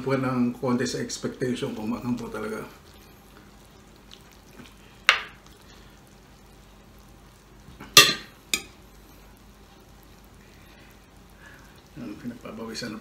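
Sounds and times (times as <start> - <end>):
faint sizzle from pan: 0.0 - 13.0.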